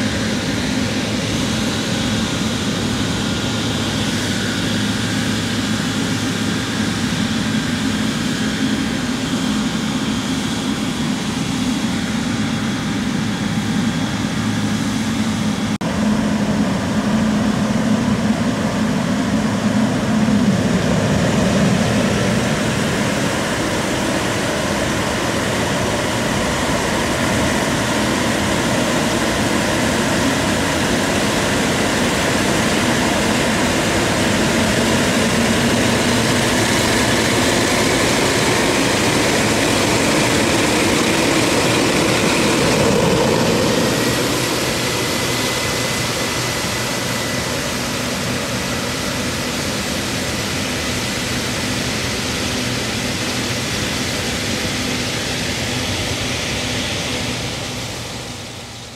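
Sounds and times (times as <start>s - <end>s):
jet engines at taxi power: 0.0s - 58.9s.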